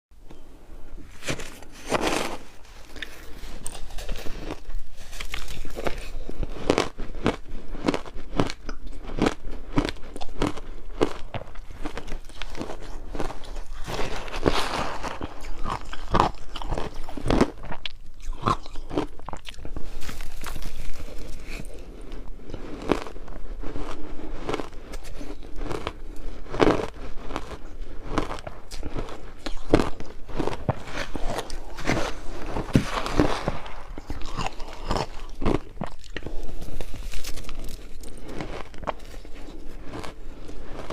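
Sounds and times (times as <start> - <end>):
ice crunching while chewed: 1.1 - 40.9.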